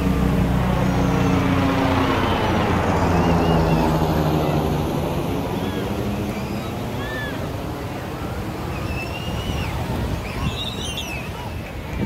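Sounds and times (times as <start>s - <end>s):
engine running: 0.0s - 10.5s.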